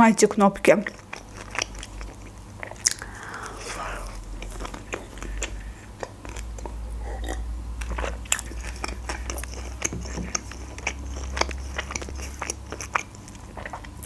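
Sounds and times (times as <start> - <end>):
mouth chewing food: 0.3 - 14.0
mouth clicks and smacks: 0.8 - 14.0.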